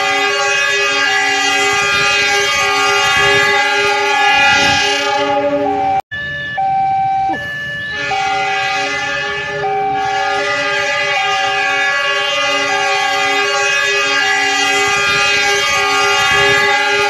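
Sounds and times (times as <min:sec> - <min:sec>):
locomotive air horn: 0:00.0 - 0:06.0, 0:07.3 - 0:17.0.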